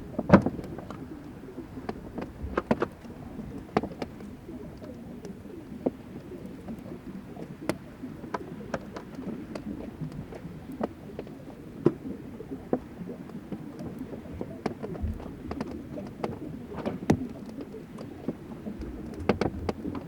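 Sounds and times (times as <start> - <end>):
meltwater gurgling: 0.0 - 20.0.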